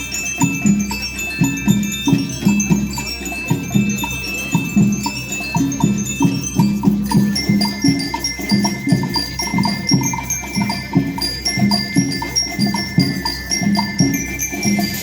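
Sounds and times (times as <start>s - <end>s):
bell lyres playing melody: 0.0s - 15.0s
repeating drum beat: 0.0s - 15.0s.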